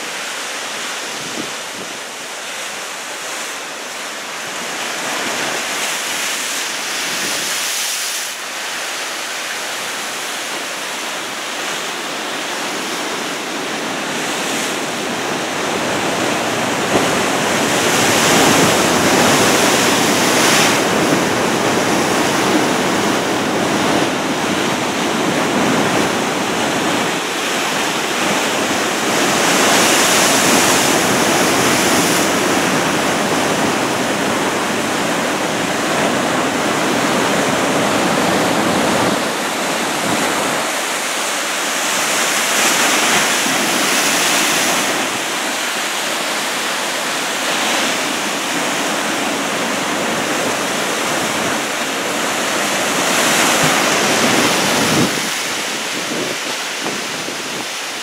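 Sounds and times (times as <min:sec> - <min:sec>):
surf breaking and washing: 0:00.0 - 0:58.0.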